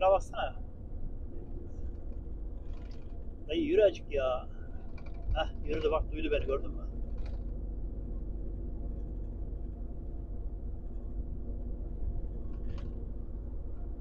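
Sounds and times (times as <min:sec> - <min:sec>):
truck engine with road rumble: 0:00.0 - 0:14.0.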